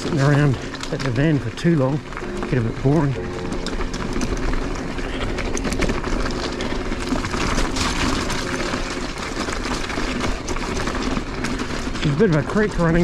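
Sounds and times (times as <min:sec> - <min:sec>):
tyres on wet rocky trail: 0:00.0 - 0:13.0.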